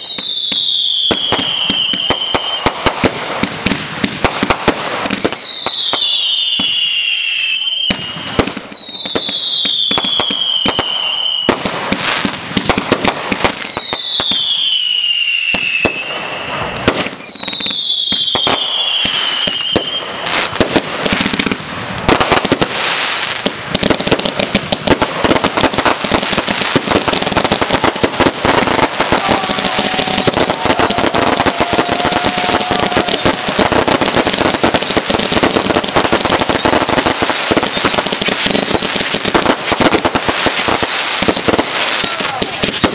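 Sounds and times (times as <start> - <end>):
firework whistles falling in pitch: 0.0 - 2.8, 4.4 - 12.8, 13.4 - 22.3, 25.3 - 42.9
crackling of bursting fireworks: 0.0 - 42.9
fireworks bangs: 0.0 - 42.9.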